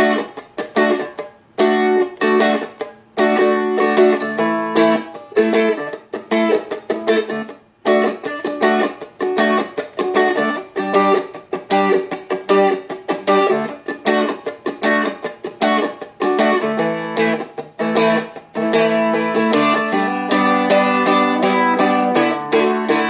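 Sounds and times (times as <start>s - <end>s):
guitar strummed in reggae rhythm: 0.0s - 23.0s.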